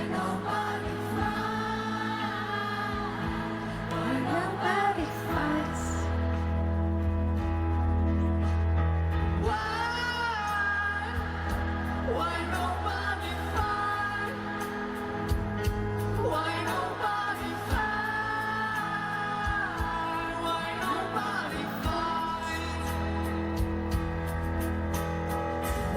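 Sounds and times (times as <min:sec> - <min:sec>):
keyboard and bass chords: 0:00.0 - 0:25.9.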